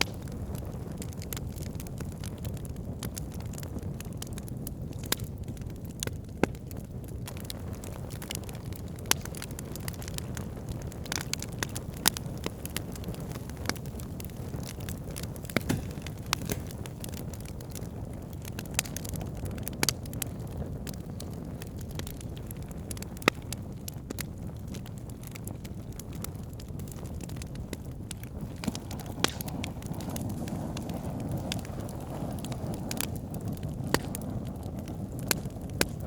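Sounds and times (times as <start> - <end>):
campfire flames rushing: 0.0 - 36.0
fire crackling and popping: 0.0 - 36.0.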